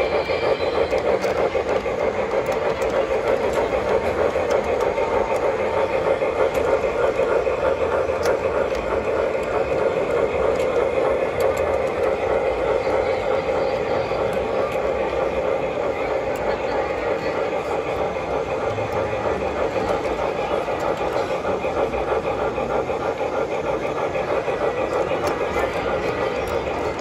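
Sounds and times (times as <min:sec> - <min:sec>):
model train motor hum: 0:00.0 - 0:27.0
steam locomotive running sounds: 0:00.0 - 0:27.0.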